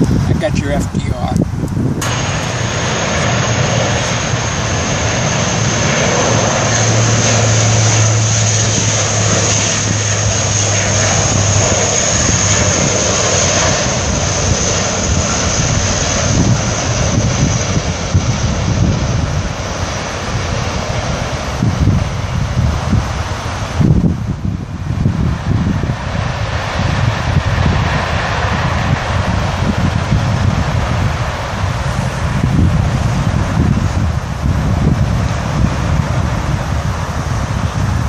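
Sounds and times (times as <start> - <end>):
turboprop aircraft flying past: 0.0 - 38.0.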